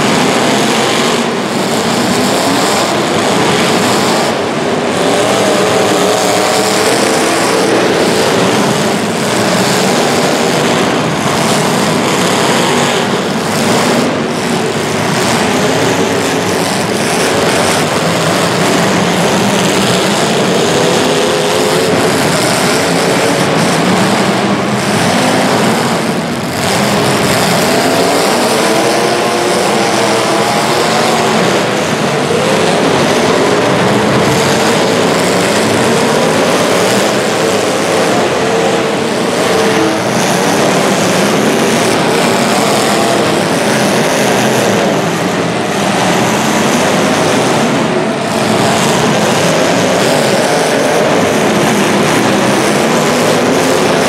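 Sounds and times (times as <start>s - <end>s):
racing vehicle engines: 0.0s - 54.0s.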